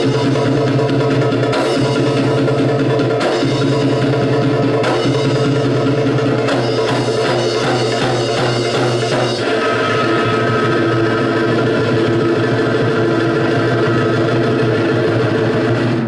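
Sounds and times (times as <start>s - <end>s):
loud music with held chords: 0.0s - 16.0s
sharp drum strokes: 0.0s - 16.0s.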